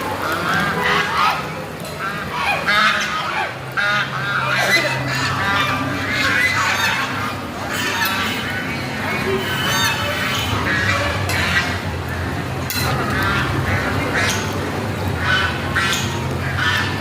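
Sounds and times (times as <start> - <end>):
flock of ducks calling: 0.0 - 17.0.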